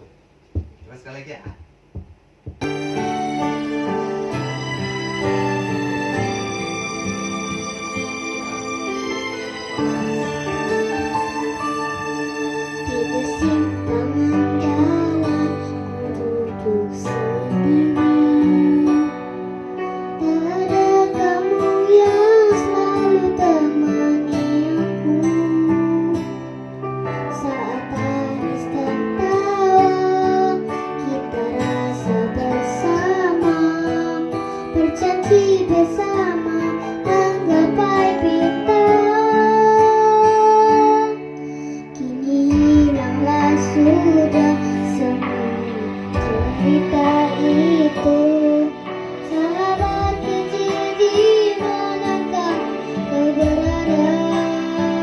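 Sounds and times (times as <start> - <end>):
instrumental backing: 0.0 - 55.0
person singing pop ballad: 10.0 - 55.0.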